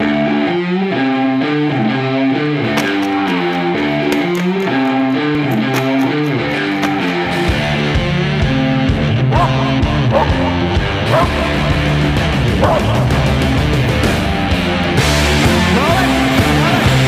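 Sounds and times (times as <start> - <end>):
plucked guitar melody over beat: 0.0 - 17.0.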